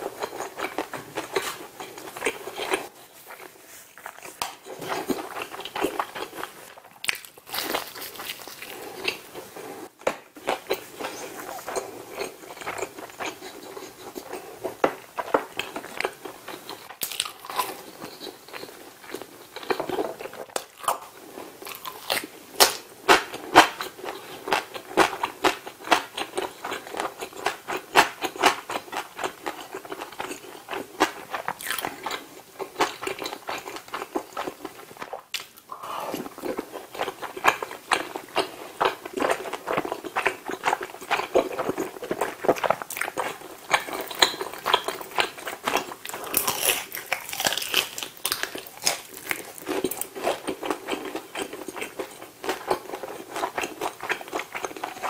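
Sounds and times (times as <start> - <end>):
chewing crusty pizza: 0.0 - 55.0.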